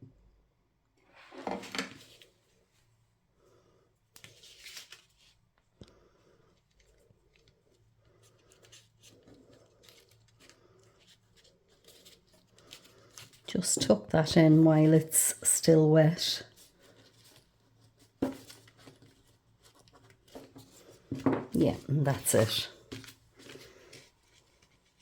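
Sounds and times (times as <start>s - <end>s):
lace and card rustling: 4.1s - 25.0s.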